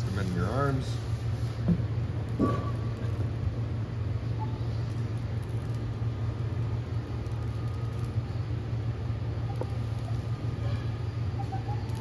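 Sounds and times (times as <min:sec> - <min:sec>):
electric awning motor humming: 0:00.0 - 0:12.0.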